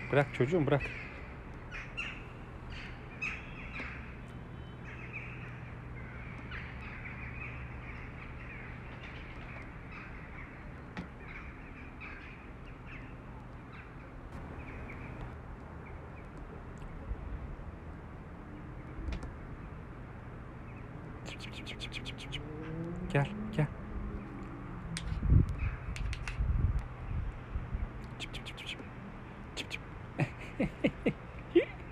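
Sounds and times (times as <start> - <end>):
birds chirping: 0.0 - 17.1, 20.6 - 26.4, 27.0 - 31.9.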